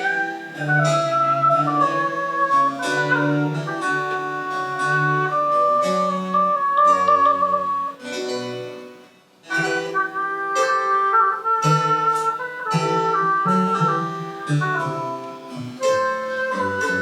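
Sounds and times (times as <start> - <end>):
flute melody: 0.0 - 8.5, 9.5 - 17.0
plucked strings: 0.0 - 17.0.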